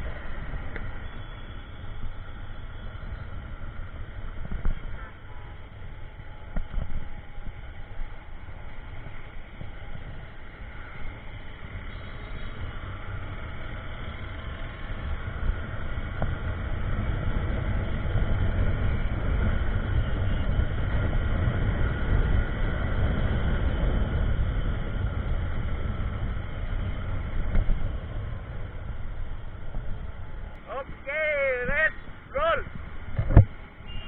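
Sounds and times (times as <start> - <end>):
motorcycle engine running: 0.0 - 30.6
wind buffeting microphone: 1.9 - 33.8.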